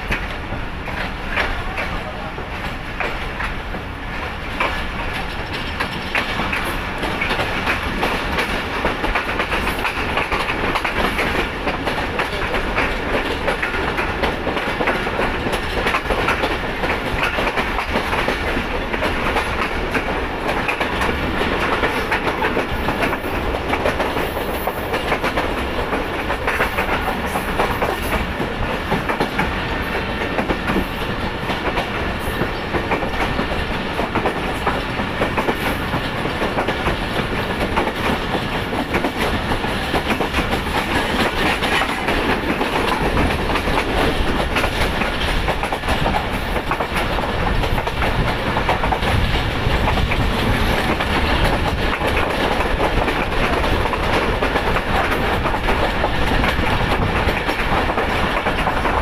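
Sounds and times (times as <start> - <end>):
continuous train rumble: 0.0 - 59.0
train wheels clattering over rail joints: 0.0 - 59.0.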